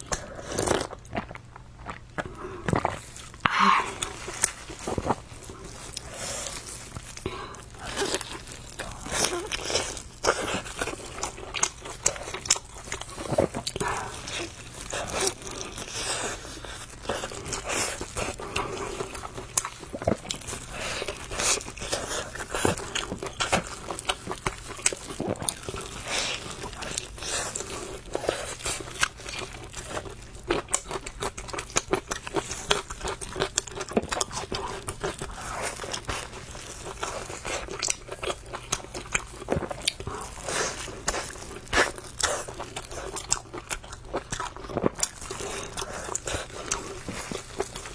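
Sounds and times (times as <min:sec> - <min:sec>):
crunchy bites and chewing: 0:00.0 - 0:47.9.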